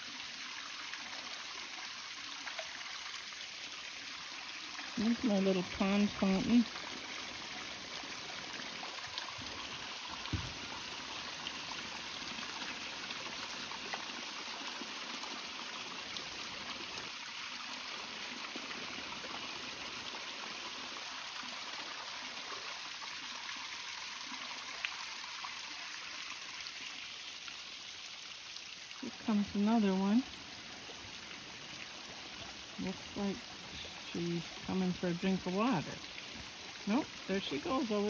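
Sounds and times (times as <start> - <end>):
fountain water splashing: 0.0 - 38.0.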